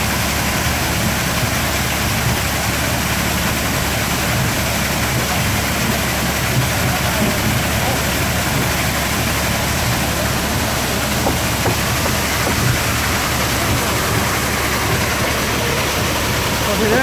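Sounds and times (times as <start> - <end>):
water rushing down chute: 0.0 - 17.0
water splashing through wheel: 0.0 - 17.0.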